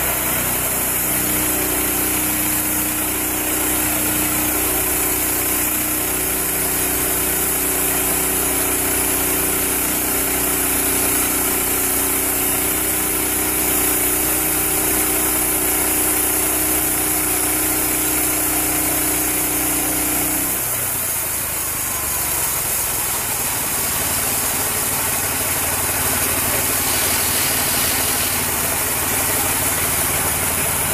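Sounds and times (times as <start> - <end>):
sawmill engine running: 0.0 - 30.9.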